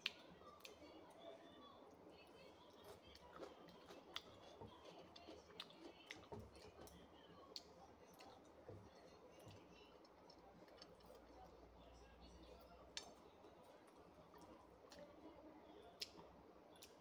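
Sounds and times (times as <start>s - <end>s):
chewing and mouth noises: 1.9s - 17.0s.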